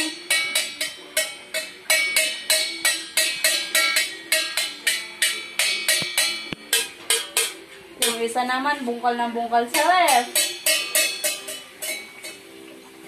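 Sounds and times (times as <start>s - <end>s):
stick drumming on metal pots: 0.0s - 12.6s.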